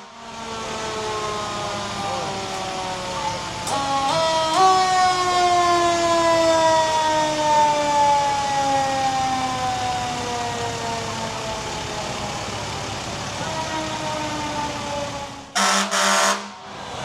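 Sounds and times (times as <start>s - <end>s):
fire truck siren wailing: 0.0s - 17.0s.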